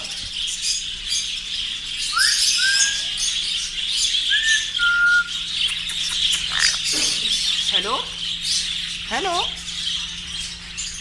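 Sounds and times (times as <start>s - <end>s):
caged birds chirping and chattering: 0.0s - 11.0s.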